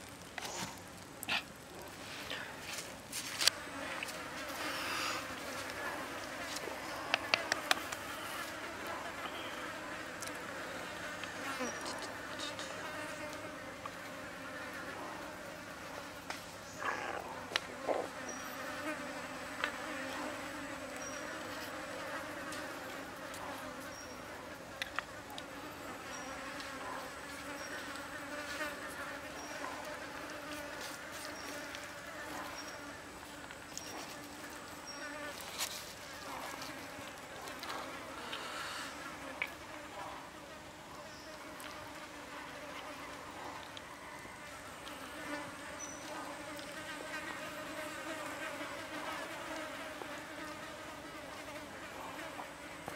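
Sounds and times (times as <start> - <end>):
insects buzzing: 0.0 - 52.9.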